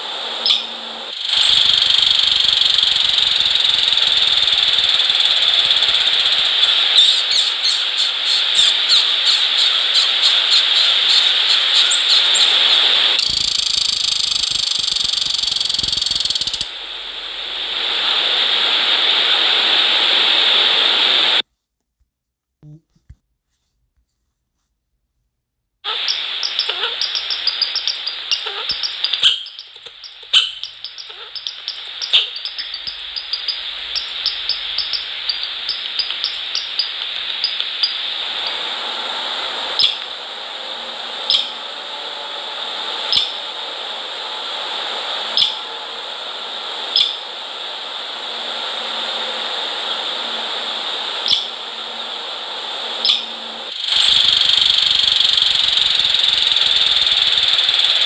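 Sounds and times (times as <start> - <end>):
steady outdoor hiss: 0.0 - 21.4, 25.8 - 58.0.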